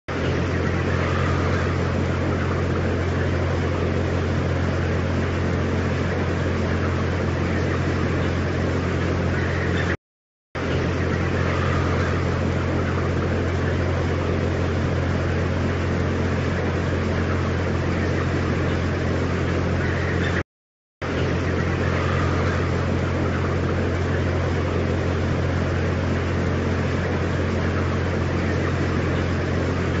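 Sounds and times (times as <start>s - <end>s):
mechanical hum: 0.1s - 10.0s, 10.6s - 20.4s, 21.0s - 30.0s.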